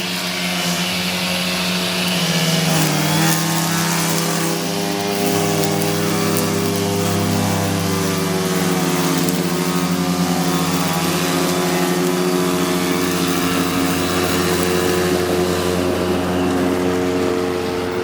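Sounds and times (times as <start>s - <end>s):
grass trimmer motor running: 0.0s - 18.0s.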